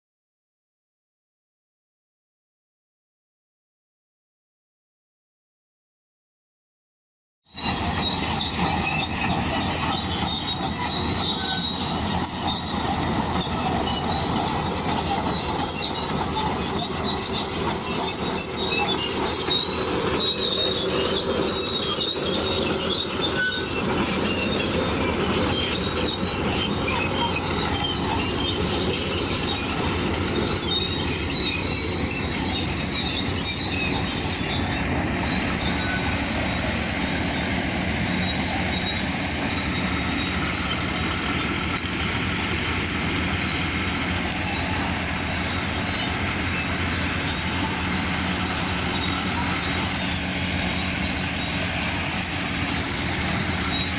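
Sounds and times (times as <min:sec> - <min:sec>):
bulldozer engine running: 0:07.5 - 0:53.9
bulldozer tracks squealing and clanking: 0:07.5 - 0:53.9.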